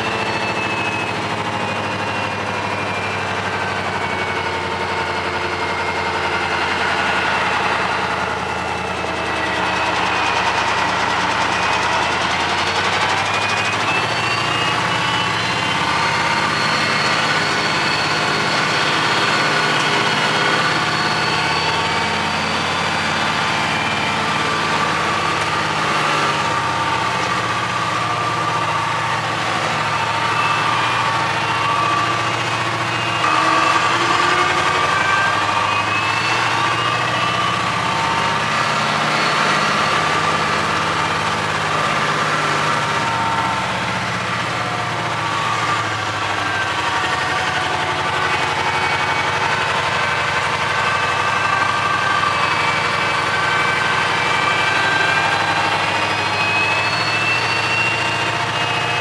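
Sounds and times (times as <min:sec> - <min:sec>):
diesel truck engine revving: 0:00.0 - 0:59.0.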